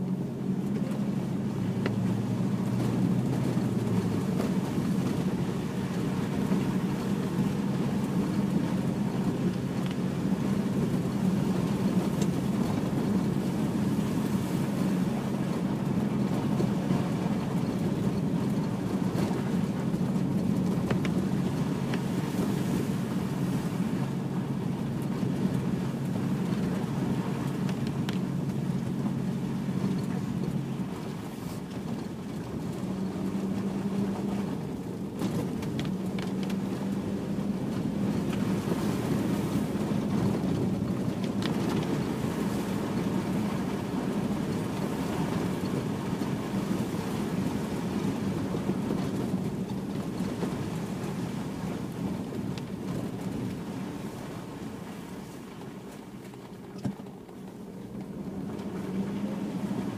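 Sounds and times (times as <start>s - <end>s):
car engine hum: 0.0s - 59.9s
tyre and road noise on slush: 0.0s - 59.9s.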